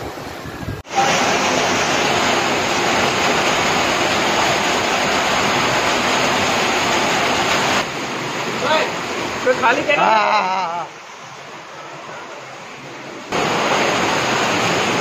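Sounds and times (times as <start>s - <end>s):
floodwater gushing: 0.0s - 15.0s.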